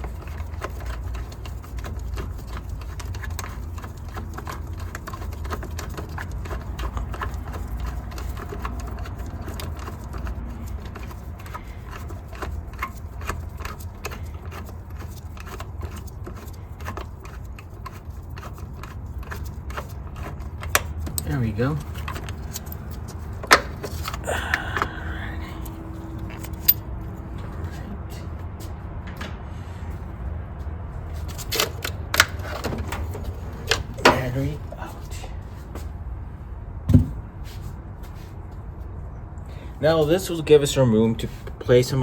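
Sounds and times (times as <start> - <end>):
low steady rumble: 0.0 - 41.7.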